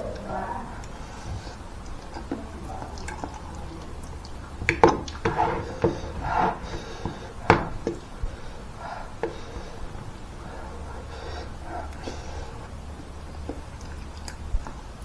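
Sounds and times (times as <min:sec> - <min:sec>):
moist eating noises: 0:00.0 - 0:15.0.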